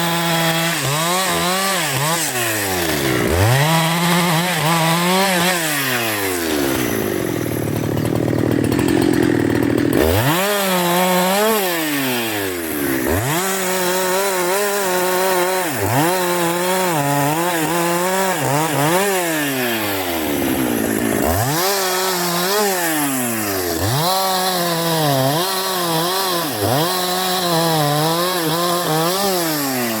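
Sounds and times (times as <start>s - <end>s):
chainsaw engine revving: 0.0s - 30.0s.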